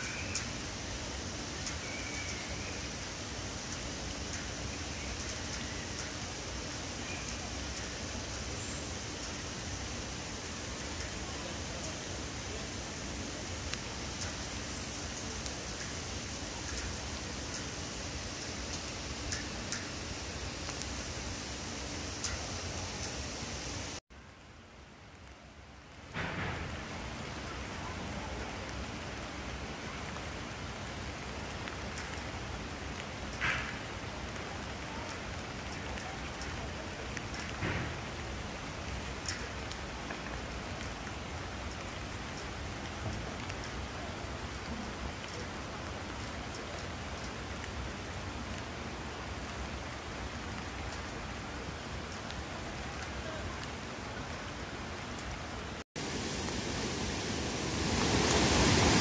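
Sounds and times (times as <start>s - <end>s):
single raindrops landing close: 0.0s - 24.4s, 25.1s - 59.0s
steady rain falling: 0.0s - 59.0s.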